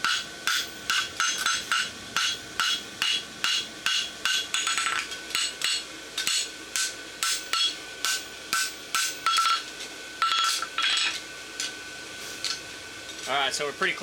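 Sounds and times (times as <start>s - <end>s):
hammer striking hot steel on anvil: 0.0s - 11.7s.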